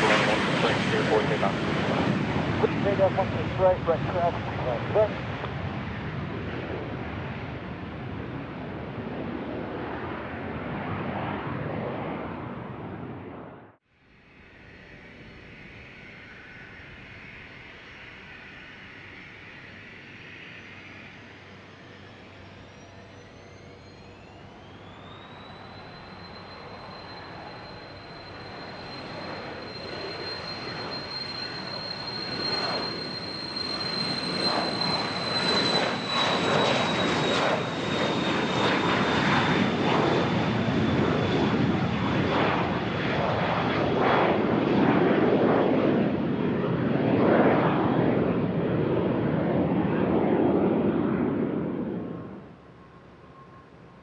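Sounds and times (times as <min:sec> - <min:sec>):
jet engine rumble: 0:00.0 - 0:54.0
jet turbine engines whining: 0:00.0 - 0:54.0.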